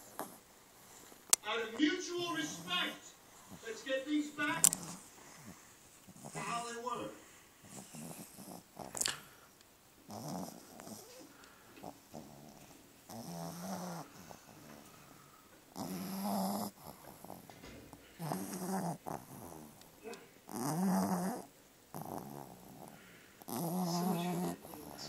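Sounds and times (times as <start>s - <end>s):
dog snoring: 0.0s - 1.3s, 2.2s - 25.0s.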